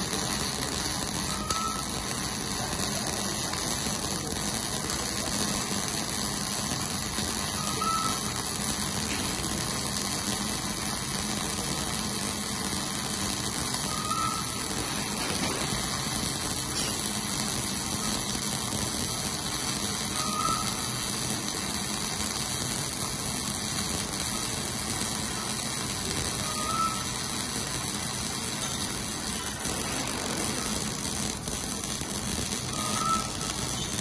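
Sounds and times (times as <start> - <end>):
welding arc hissing and crackling: 0.0 - 34.0.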